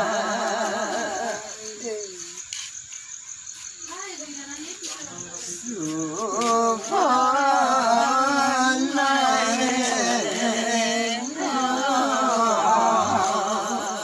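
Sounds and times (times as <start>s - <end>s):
person singing unaccompanied: 0.0s - 2.4s, 4.8s - 14.0s.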